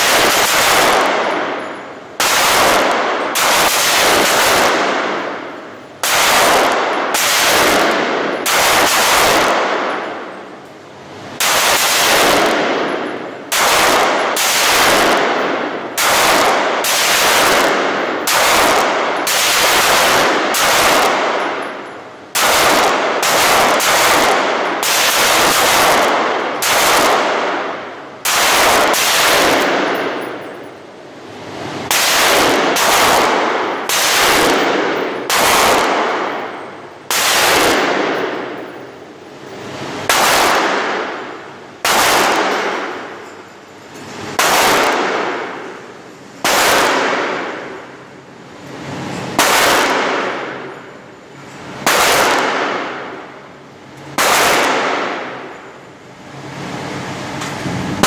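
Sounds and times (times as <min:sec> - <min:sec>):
pistol shots echoing: 0:00.0 - 0:10.6, 0:11.3 - 0:30.6, 0:31.8 - 0:38.9, 0:40.0 - 0:43.5, 0:44.3 - 0:48.0, 0:49.4 - 0:50.9, 0:51.8 - 0:53.5, 0:54.1 - 0:55.7.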